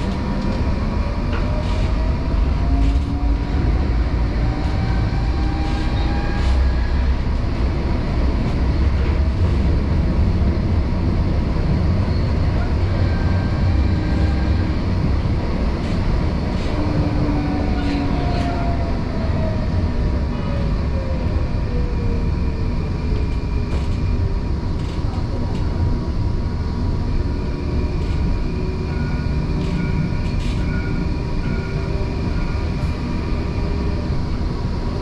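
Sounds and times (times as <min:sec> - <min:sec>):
tram rumbling on rails: 0:00.0 - 0:35.0.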